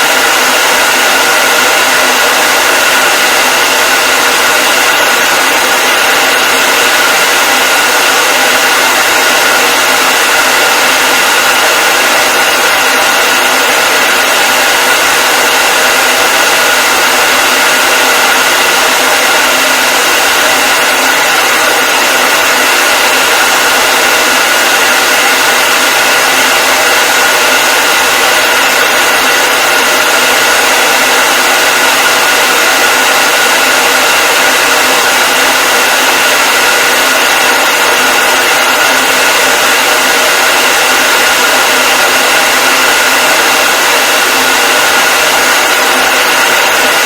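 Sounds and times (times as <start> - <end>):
hair dryer running: 0.0 - 47.0.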